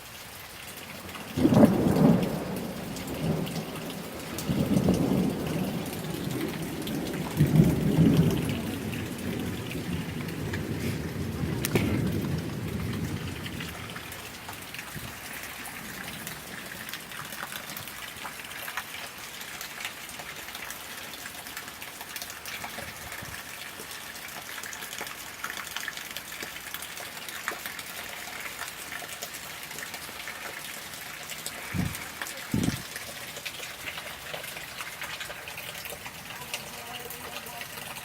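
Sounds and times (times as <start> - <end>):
raindrops ticking close by: 0.0 - 38.0
steady rain: 0.0 - 38.0.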